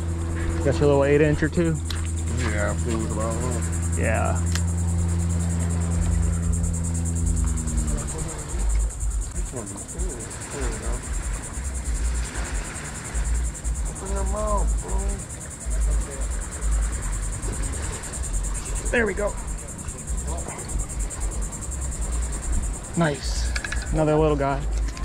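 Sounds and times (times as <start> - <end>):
insects trilling: 0.0 - 25.0
low steady hum: 0.0 - 25.0
wind buffeting microphone: 0.0 - 25.0.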